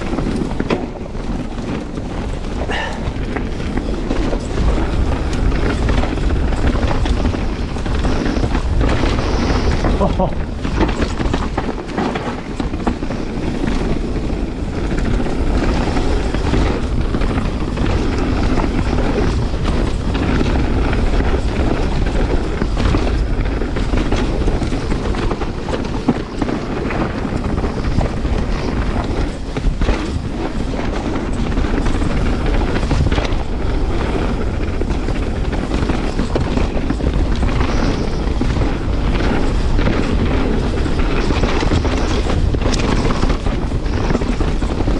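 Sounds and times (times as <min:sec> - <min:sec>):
bike rattling and knocking: 0:00.0 - 0:44.9
tyres rumbling over dirt and rock: 0:00.0 - 0:44.9
wind buffeting microphone: 0:00.0 - 0:44.9.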